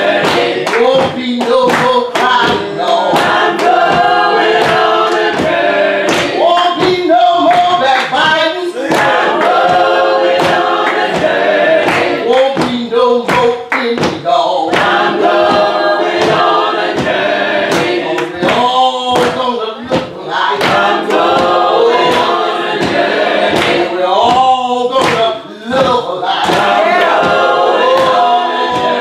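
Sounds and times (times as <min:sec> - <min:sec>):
congregation singing along: 0:00.0 - 0:29.0
sharp percussive strokes: 0:00.0 - 0:29.0.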